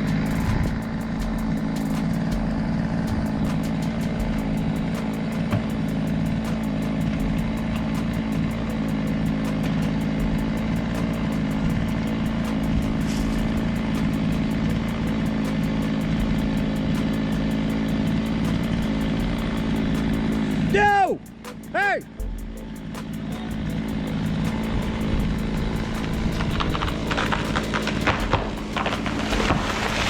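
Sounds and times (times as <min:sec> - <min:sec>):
chainsaw engine running: 0:00.0 - 0:30.0.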